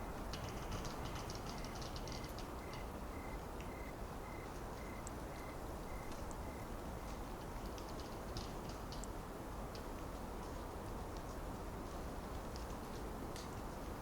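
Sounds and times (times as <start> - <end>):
wind through trees: 0.0 - 14.0.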